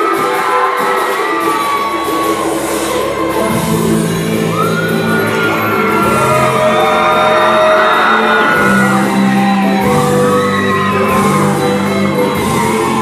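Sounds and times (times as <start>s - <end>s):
dance music over loudspeakers: 0.0s - 13.0s
steady bass line: 1.0s - 13.0s.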